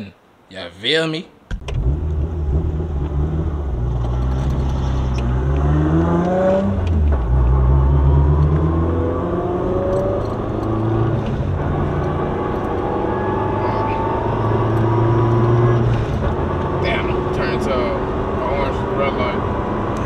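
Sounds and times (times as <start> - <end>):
car engine revving at full throttle: 1.6 - 20.0.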